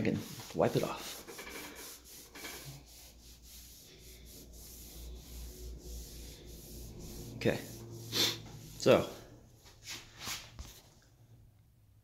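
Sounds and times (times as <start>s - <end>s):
cloth rag rubbing on wood: 0.0s - 10.9s.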